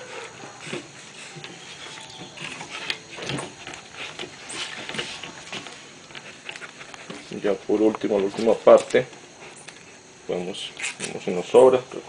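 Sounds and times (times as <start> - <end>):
tape rustles and clicks: 0.3 - 10.0.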